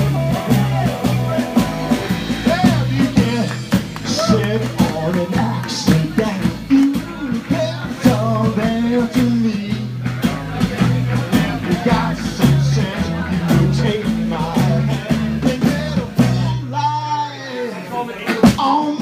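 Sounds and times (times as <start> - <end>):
drum kit: 0.0 - 17.3, 18.2 - 19.0
bass line: 0.0 - 17.5
guitar: 0.0 - 19.0.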